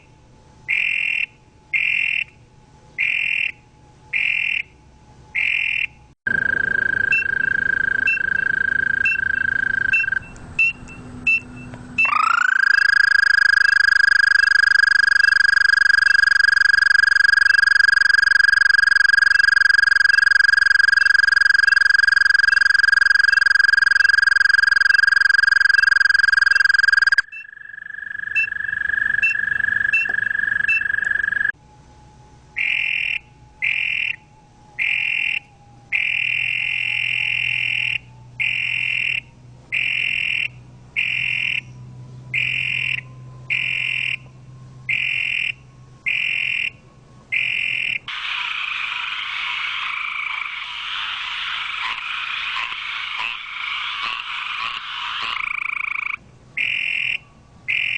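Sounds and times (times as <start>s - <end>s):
dense frog chorus: 0.7s - 2.3s, 3.0s - 3.6s, 4.2s - 4.7s, 5.4s - 10.7s, 12.0s - 31.6s, 32.6s - 34.2s, 34.8s - 35.4s, 36.0s - 41.7s, 42.4s - 44.2s, 44.9s - 51.1s, 51.8s - 57.9s
high-pitched toad trill: 0.7s - 2.4s, 3.0s - 3.6s, 4.2s - 4.7s, 5.4s - 31.6s, 32.6s - 41.7s, 42.3s - 44.3s, 44.9s - 57.9s
short repeated frog calls: 0.7s - 2.4s, 3.0s - 3.6s, 4.2s - 4.7s, 5.4s - 10.7s, 12.0s - 31.6s, 32.6s - 34.2s, 34.8s - 35.4s, 36.0s - 41.7s, 42.4s - 44.2s, 44.9s - 46.7s, 47.4s - 57.9s.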